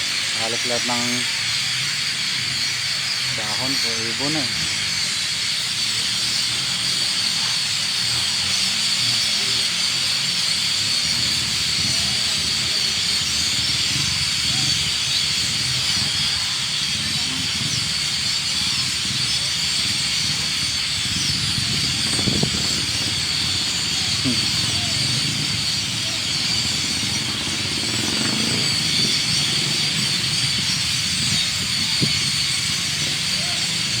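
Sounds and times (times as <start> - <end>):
flock of birds chattering: 0.0 - 34.0.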